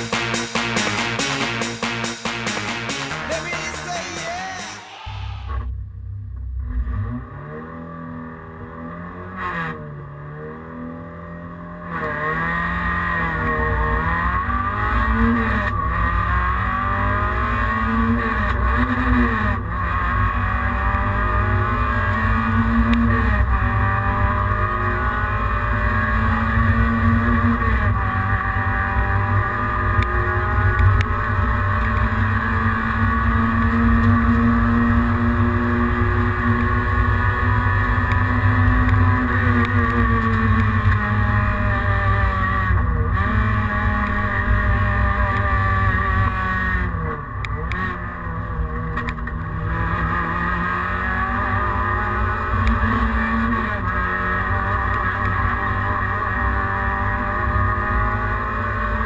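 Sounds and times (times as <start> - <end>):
rally car engine accelerating: 0.0 - 59.0.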